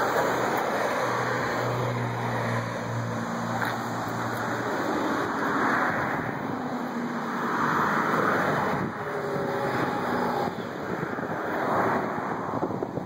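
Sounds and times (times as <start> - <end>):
car passing by: 0.0 - 13.0.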